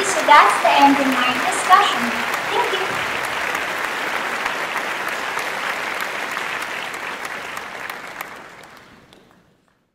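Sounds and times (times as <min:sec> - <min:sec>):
crowd applause: 0:00.0 - 0:09.9.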